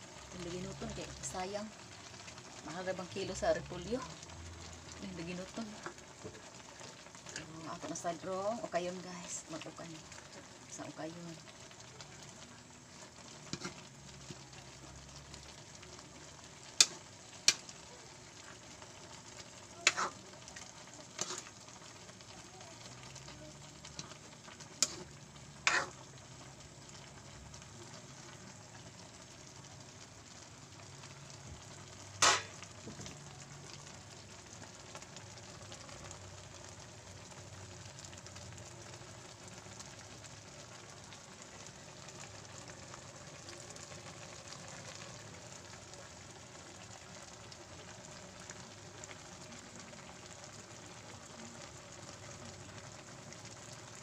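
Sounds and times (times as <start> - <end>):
noodles sizzling in a wok: 0.0 - 54.0.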